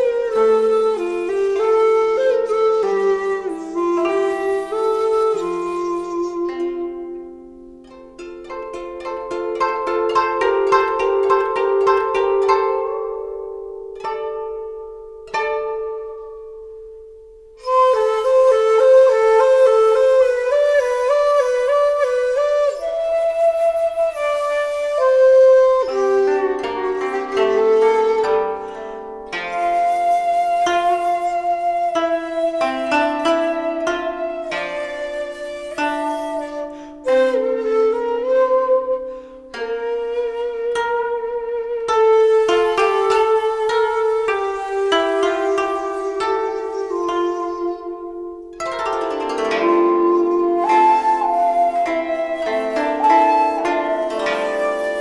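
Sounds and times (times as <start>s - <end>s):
plucked notes: 0.0s - 55.0s
woodwind melody: 0.0s - 55.0s.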